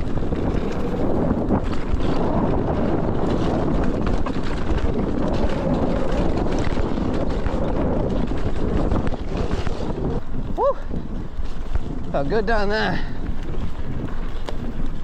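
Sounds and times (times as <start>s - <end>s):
tyre roar on dirt: 0.0s - 15.0s
wind rushing over microphone: 0.0s - 15.0s.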